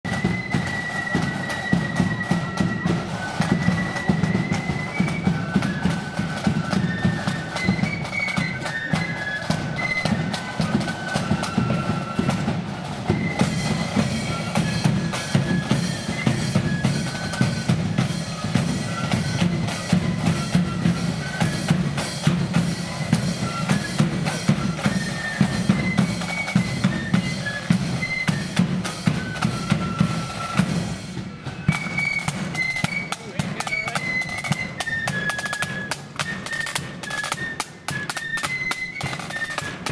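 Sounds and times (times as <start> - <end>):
flute band melody: 0.0 - 39.9
snare drums: 0.0 - 39.9.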